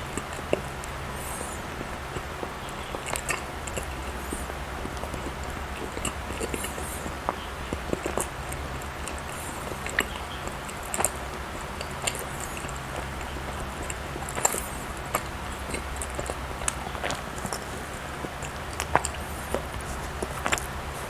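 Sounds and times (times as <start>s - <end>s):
person chewing: 0.0s - 21.0s
steady low hum: 0.0s - 21.0s.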